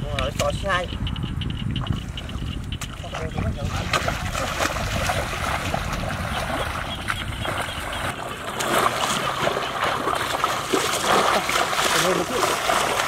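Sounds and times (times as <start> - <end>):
water and mud splashing: 1.7 - 13.0.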